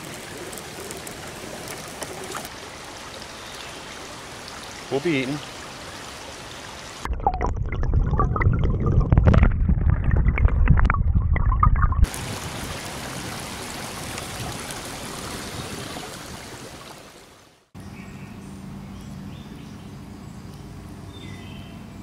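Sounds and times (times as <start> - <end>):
water sloshing and gurgling: 0.0 - 17.7.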